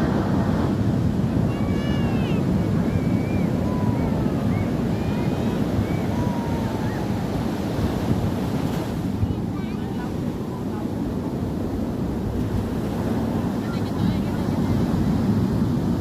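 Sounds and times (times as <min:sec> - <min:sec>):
surf rumbling on beach: 0:00.0 - 0:16.0
wind buffeting microphone: 0:00.0 - 0:16.0.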